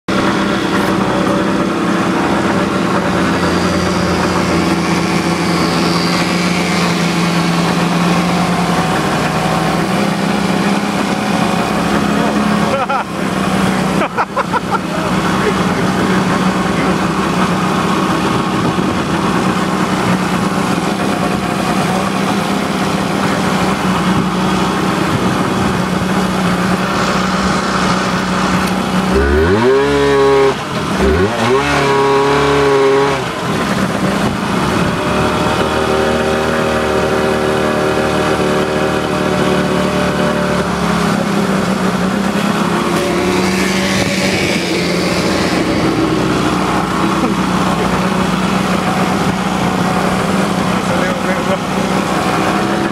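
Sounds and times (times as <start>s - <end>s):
motorboat engines running: 0.1s - 52.9s.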